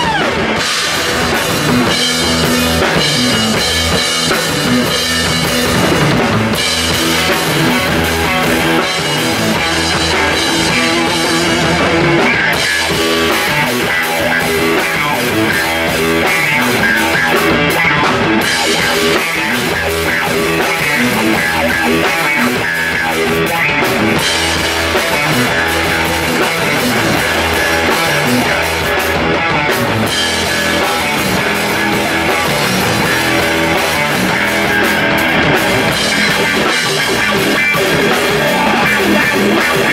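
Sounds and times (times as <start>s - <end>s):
drum kit: 0.0s - 39.9s
guitar: 0.0s - 39.9s
rock band playing: 0.0s - 39.9s.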